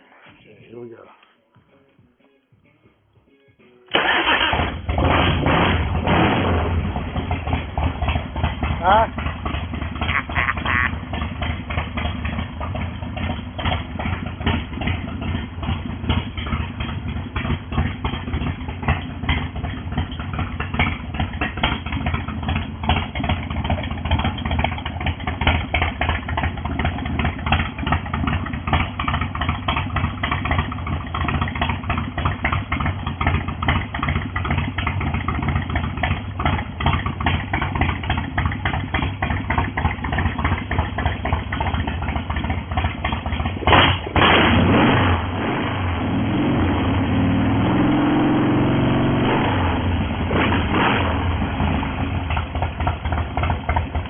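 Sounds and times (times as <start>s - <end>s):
motorcycle engine idling: 4.2s - 44.2s, 49.6s - 54.0s.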